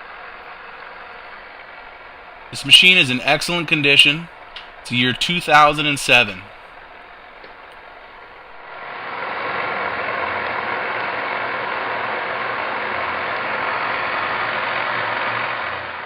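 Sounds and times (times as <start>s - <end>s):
lathe gears whirring: 0.0s - 5.9s, 6.5s - 16.0s.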